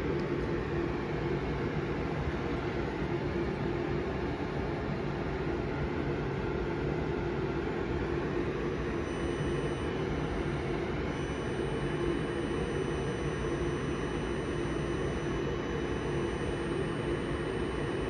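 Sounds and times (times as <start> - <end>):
laptop cooling fans humming: 0.0 - 18.0.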